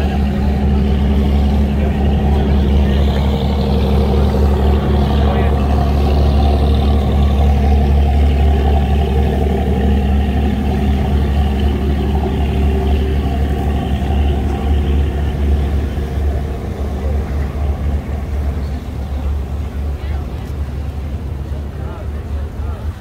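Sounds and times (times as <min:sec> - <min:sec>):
large engine deep hum: 0:00.0 - 0:23.0.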